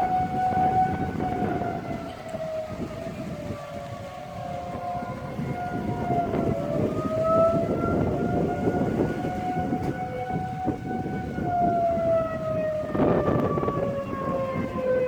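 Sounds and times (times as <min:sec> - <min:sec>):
tornado sirens wailing: 0:00.0 - 0:15.0.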